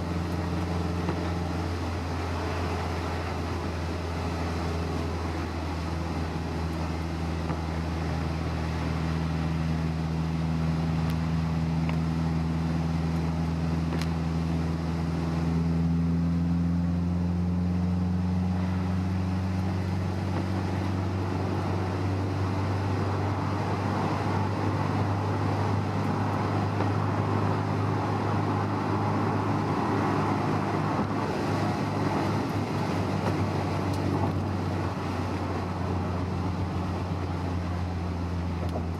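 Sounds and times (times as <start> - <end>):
car engine cruising: 0.0 - 38.9
tyre and road noise: 0.0 - 38.9.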